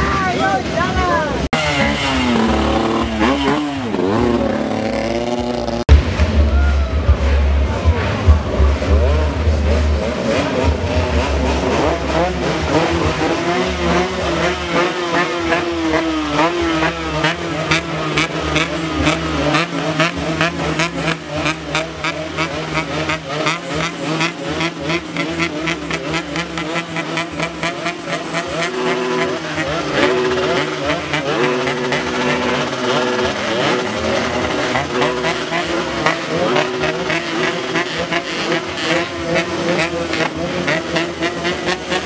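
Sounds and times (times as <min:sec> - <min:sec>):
motorcycle engines revving: 0:00.0 - 0:42.0.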